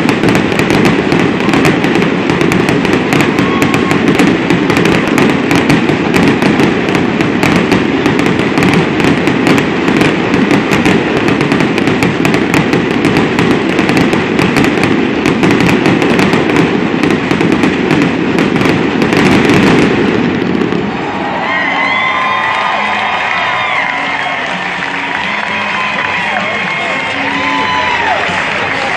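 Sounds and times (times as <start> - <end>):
fireworks crackling and popping: 0.0 - 28.9.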